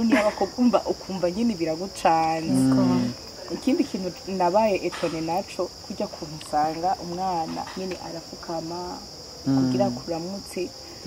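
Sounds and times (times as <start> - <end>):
woman talking: 0.0 - 9.0, 9.7 - 10.7
crickets chirring: 0.0 - 11.0.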